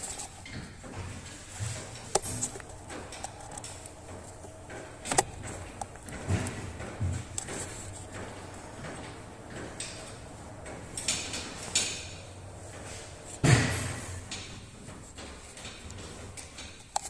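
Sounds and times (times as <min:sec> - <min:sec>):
hard objects knocking and clanking: 0:00.0 - 0:17.0.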